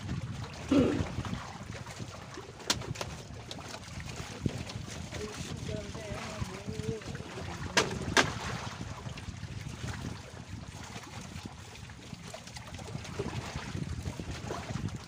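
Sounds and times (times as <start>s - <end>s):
water lapping against raft: 0.0s - 15.0s
wind rumbling on microphone: 0.0s - 15.0s.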